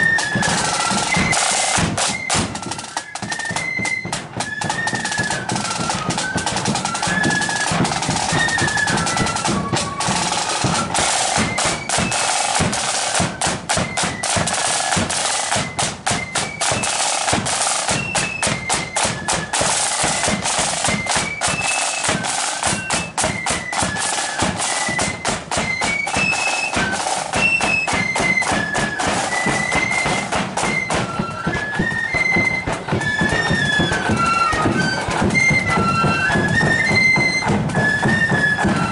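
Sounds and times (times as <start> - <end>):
flute melody: 0.0 - 38.9
snare drum strokes and rolls: 0.0 - 38.9.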